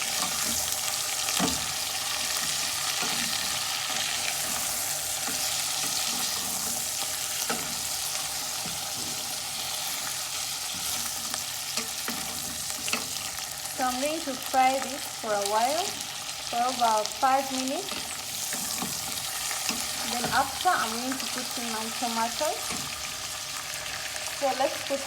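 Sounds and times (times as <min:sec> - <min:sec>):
onions sizzling in hot oil: 0:00.0 - 0:25.0.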